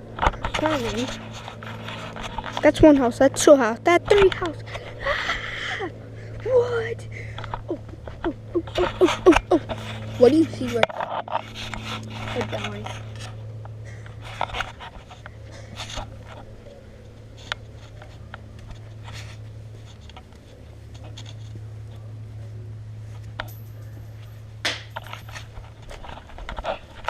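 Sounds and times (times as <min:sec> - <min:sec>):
steady low hum: 0:00.0 - 0:27.0
light clicks and scrapes: 0:00.1 - 0:05.4, 0:07.3 - 0:27.0.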